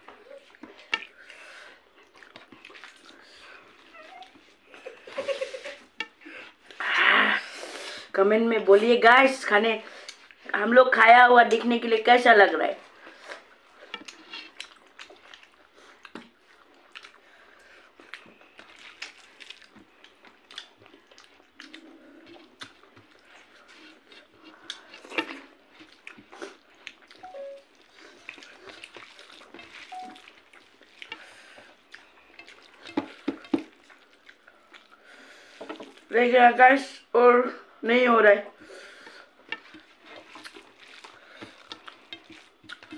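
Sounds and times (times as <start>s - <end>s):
chewing: 0.0s - 6.8s, 12.8s - 36.1s, 38.5s - 42.9s
fingers mixing wet rice: 0.0s - 6.8s, 12.8s - 36.1s, 38.6s - 42.9s.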